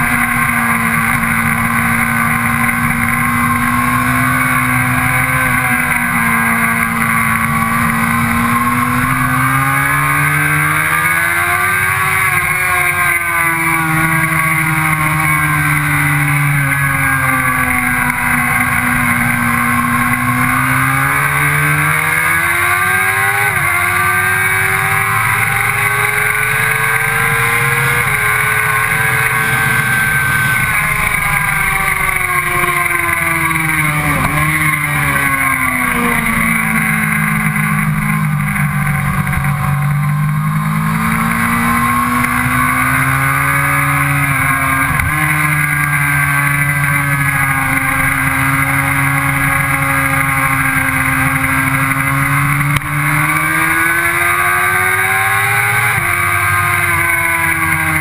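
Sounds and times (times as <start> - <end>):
gear changes: 0.0 - 58.0
motorbike engine revving: 0.0 - 58.0.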